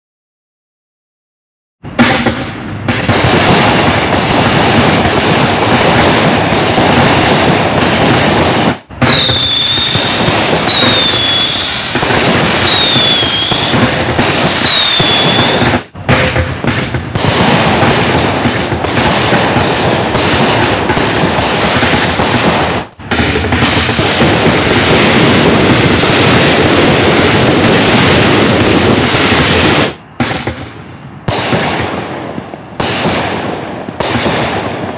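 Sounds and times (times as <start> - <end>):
firework cakes firing: 1.8 - 34.9
firework whistles: 1.8 - 34.9.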